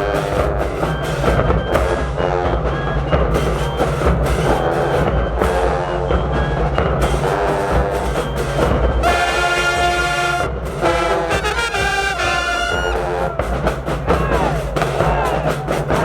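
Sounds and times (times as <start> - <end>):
brass chords: 0.0 - 16.0
drums: 0.0 - 16.0
marching band playing: 0.0 - 16.0.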